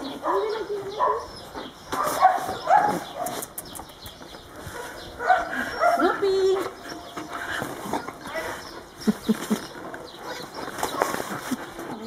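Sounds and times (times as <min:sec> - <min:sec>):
dogs whining and yelping: 0:00.0 - 0:12.0.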